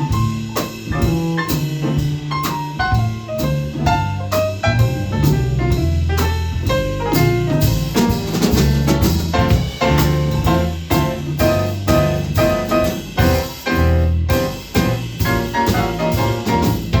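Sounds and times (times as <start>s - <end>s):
drum kit: 0.0s - 17.0s
jazz ballad: 0.0s - 17.0s
piano: 0.0s - 17.0s.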